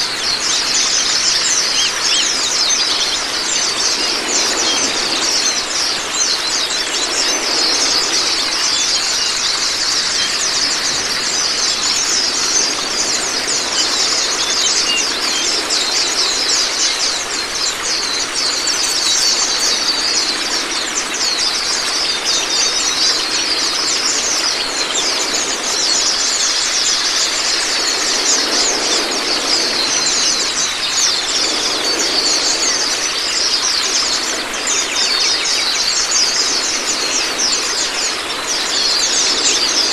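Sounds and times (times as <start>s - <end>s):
running water: 0.0s - 39.9s
small songbirds twittering: 0.0s - 39.9s.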